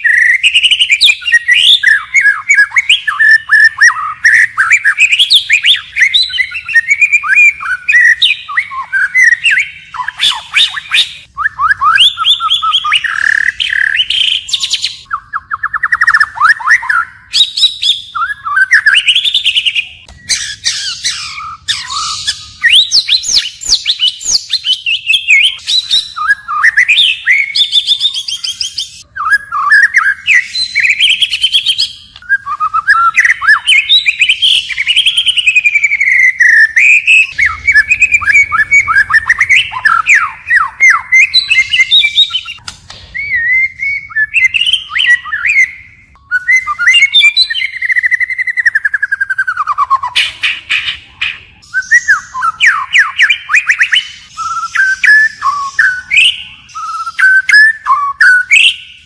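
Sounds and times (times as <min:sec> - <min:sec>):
bird singing whistled song: 0:00.0 - 0:59.0.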